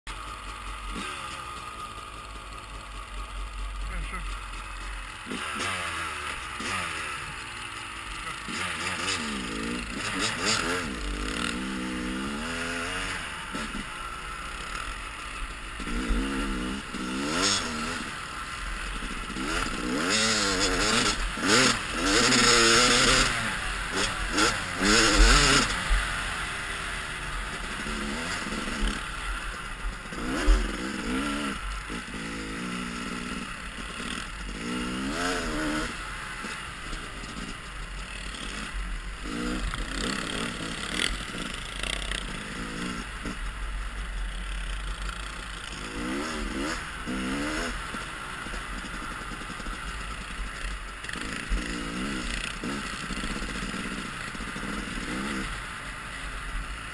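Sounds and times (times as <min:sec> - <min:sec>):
dirt bike engine revving: 0:00.1 - 0:56.9.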